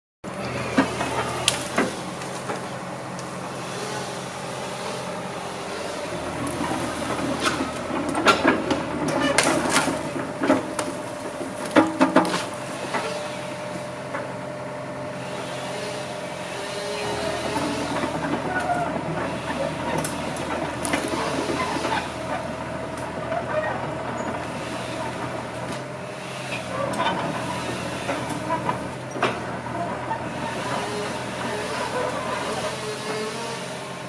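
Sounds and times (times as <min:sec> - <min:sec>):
excavator diesel engine running: 0:00.2 - 0:34.0.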